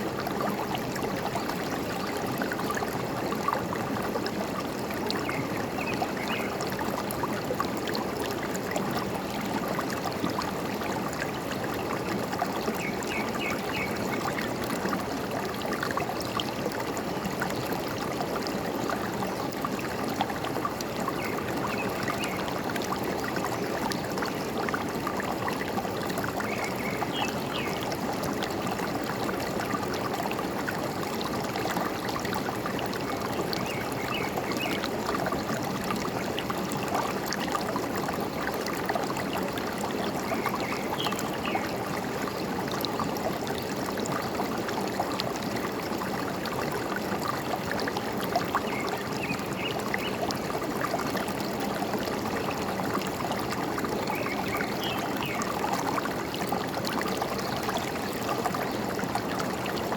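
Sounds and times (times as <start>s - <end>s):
stream trickling and gurgling: 0.0s - 59.9s.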